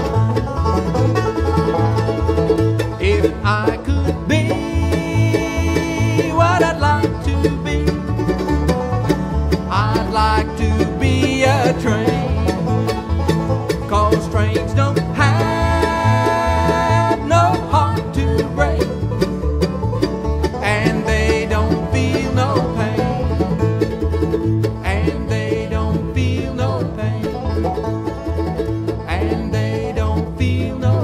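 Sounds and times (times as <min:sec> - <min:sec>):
acoustic guitars picking: 0:00.0 - 0:31.0
banjo: 0:00.0 - 0:31.0
mandolin: 0:00.0 - 0:31.0
upright bass beat: 0:00.0 - 0:31.0.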